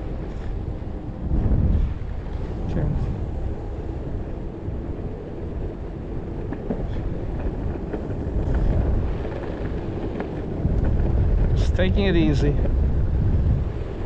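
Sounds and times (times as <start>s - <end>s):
electric skateboard rolling: 0.0s - 14.0s
wind buffeting microphone: 0.0s - 14.0s.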